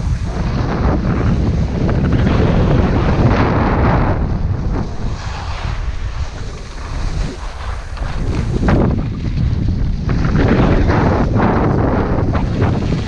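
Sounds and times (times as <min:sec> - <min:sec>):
skis scraping on snow: 0:00.0 - 0:13.0
wind buffeting microphone: 0:00.0 - 0:13.0.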